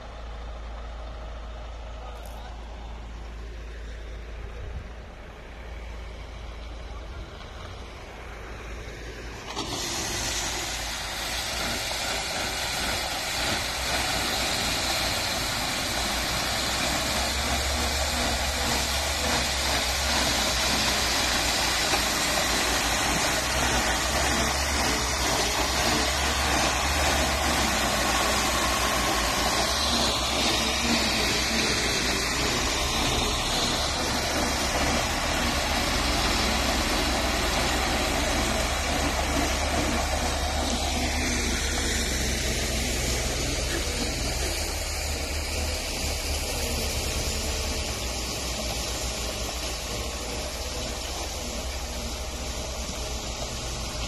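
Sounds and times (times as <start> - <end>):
spreader machine engine hum: 0.0 - 54.0.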